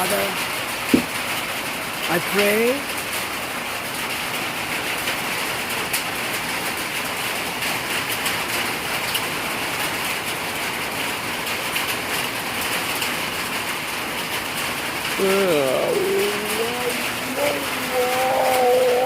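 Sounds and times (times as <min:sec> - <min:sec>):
heavy rain on surfaces: 0:00.0 - 0:19.0.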